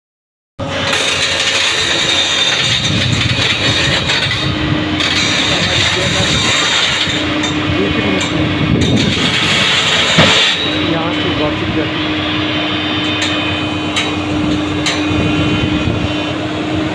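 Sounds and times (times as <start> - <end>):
excavator diesel engine running: 0.6 - 16.9
steady tone: 0.6 - 16.9.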